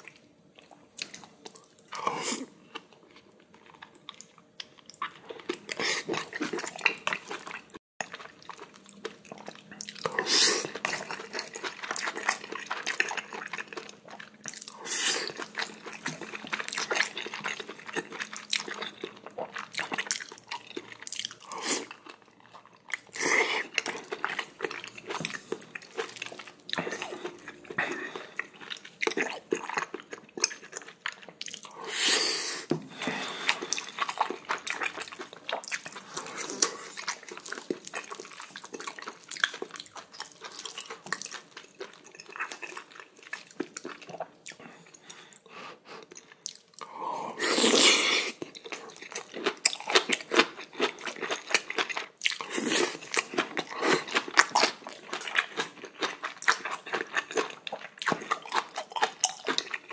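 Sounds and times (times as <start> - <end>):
close chewing and biting: 0.0 - 31.8, 33.0 - 59.9.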